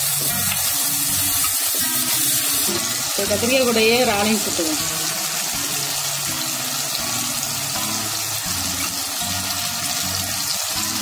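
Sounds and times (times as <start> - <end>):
prawns sizzling in hot oil: 0.0 - 11.0.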